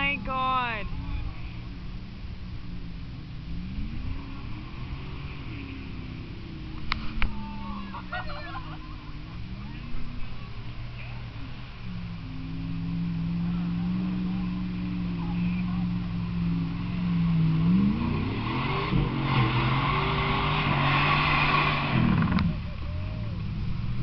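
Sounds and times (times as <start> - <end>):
broad rush of noise: 0.0 - 24.0
truck engine revving: 0.0 - 24.0.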